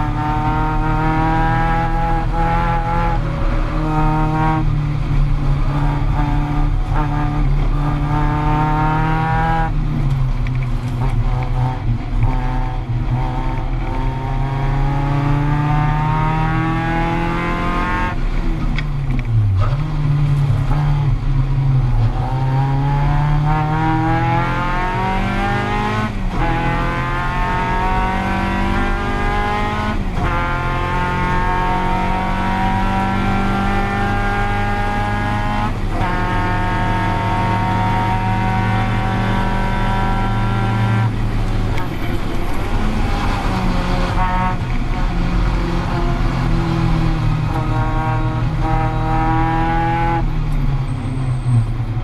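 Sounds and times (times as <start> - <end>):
racing car engine accelerating: 0.0 - 52.0.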